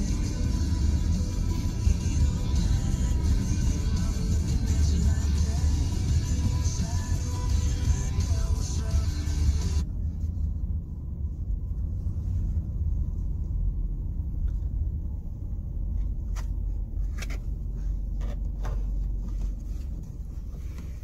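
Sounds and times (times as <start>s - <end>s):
car rumbling inside cabin: 0.0s - 21.0s.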